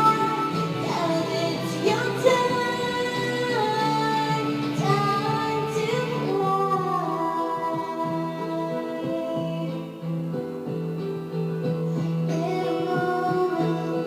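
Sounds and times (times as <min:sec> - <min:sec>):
woman singing pop song: 0:00.0 - 0:10.9, 0:11.8 - 0:14.0
backing music: 0:00.0 - 0:14.0.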